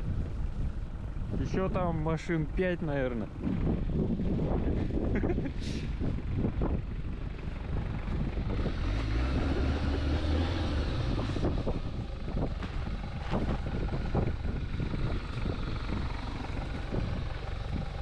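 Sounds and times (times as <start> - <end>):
vehicle engine rumbling: 0.0 - 18.0
wind noise: 0.0 - 18.0.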